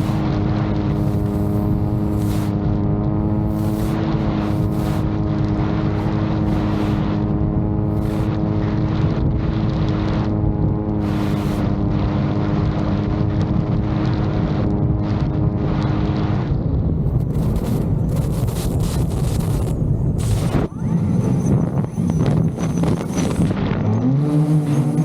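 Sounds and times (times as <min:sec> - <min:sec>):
drone propellers humming: 0:00.0 - 0:25.0
wind buffeting microphone: 0:00.0 - 0:25.0.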